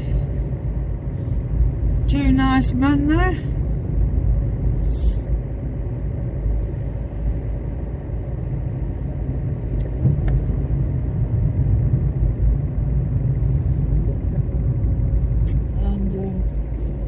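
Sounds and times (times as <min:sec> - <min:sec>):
car rumble from inside cabin: 0:00.0 - 0:17.0.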